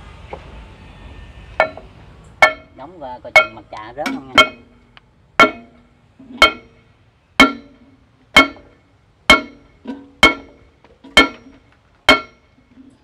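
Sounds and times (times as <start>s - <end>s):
hammer striking steel: 1.6s - 12.6s.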